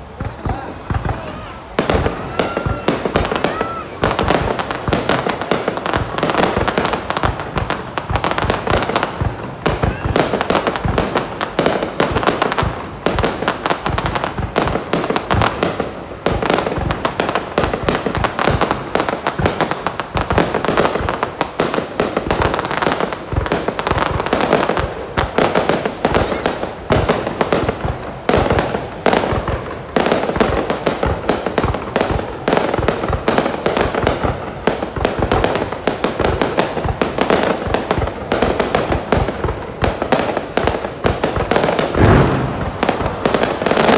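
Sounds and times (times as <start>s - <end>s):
fireworks exploding and crackling: 0.0s - 43.9s.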